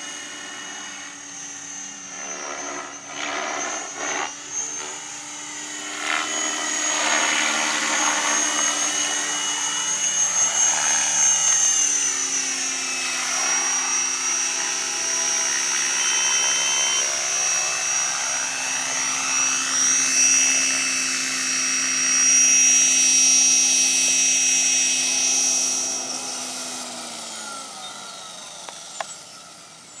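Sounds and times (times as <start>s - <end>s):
electric motor whine: 0.0s - 30.0s
helicopter rotors buzzing: 0.0s - 30.0s.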